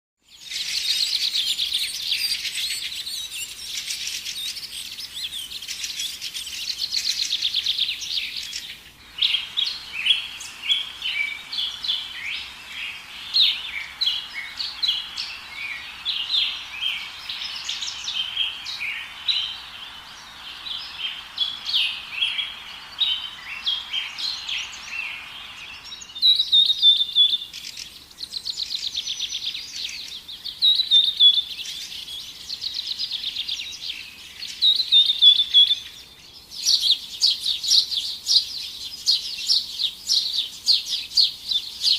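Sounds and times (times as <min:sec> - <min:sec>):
small birds chirping: 0:00.2 - 0:41.9.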